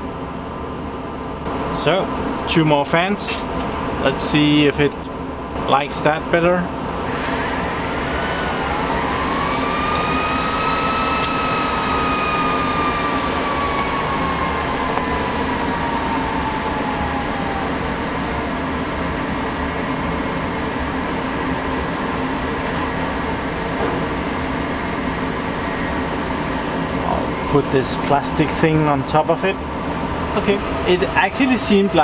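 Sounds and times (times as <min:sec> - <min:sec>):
cooling fans whining: 0:00.0 - 0:32.0.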